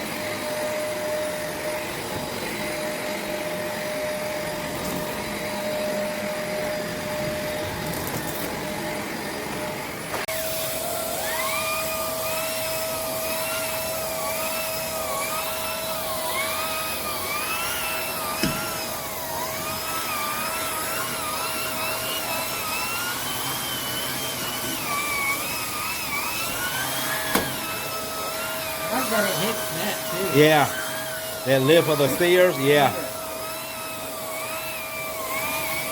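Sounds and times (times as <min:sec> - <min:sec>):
vacuum cleaner motor whine: 0:00.0 - 0:35.9.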